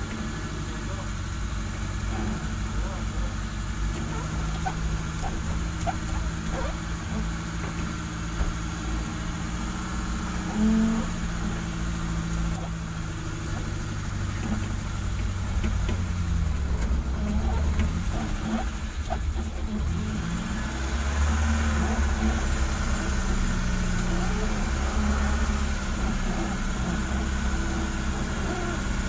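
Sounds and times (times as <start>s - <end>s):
car engine hum from cabin: 0.0s - 29.0s.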